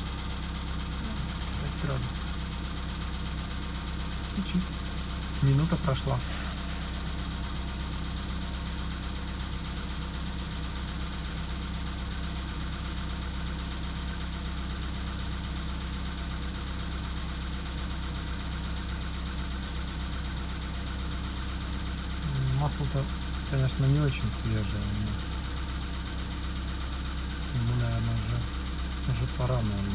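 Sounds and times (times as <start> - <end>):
car engine idling: 0.0 - 29.9
engine knocking: 0.0 - 29.9.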